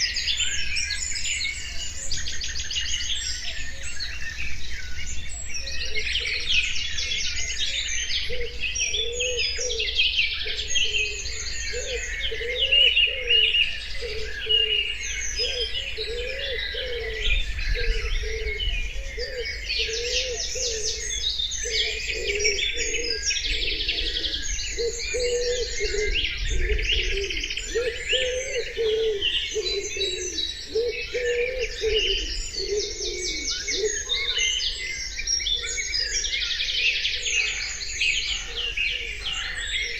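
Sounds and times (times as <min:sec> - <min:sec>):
low repeated bird call: 0:00.0 - 0:39.9
songbirds chirping and singing: 0:00.0 - 0:39.9.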